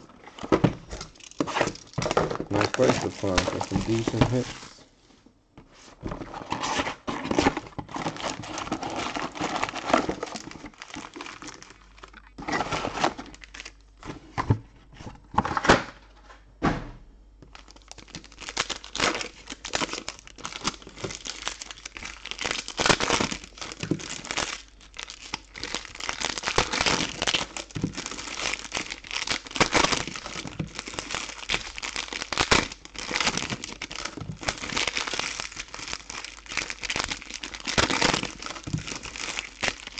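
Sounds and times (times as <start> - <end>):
foil wrappers crinkling and tearing: 0.0 - 4.8, 6.2 - 13.9, 17.5 - 39.9.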